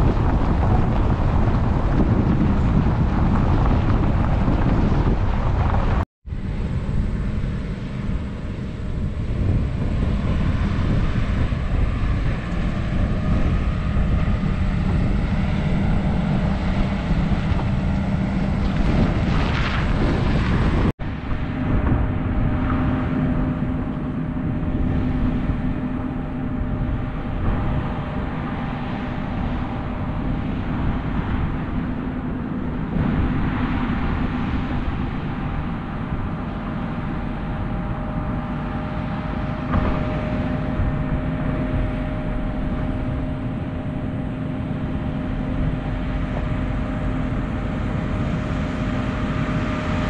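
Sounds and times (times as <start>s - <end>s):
drone propellers humming: 0.0s - 50.0s
wind rush: 0.0s - 50.0s.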